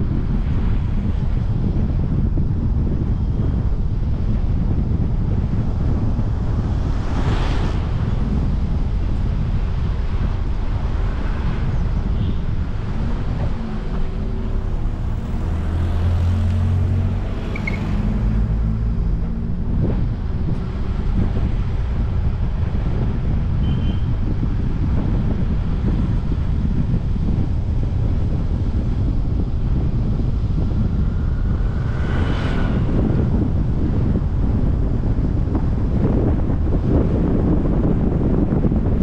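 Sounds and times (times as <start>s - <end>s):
engine hum: 0.0s - 39.0s
road and wind noise rumble: 0.0s - 39.0s.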